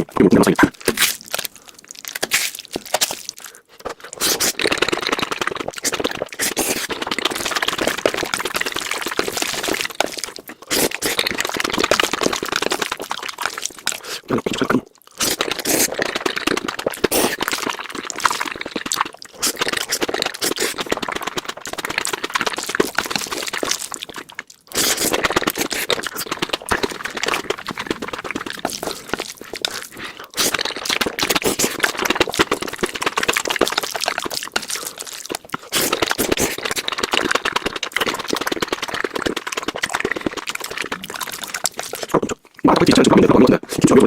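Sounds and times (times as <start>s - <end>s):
sped-up chewing and slurping: 0.0s - 43.0s.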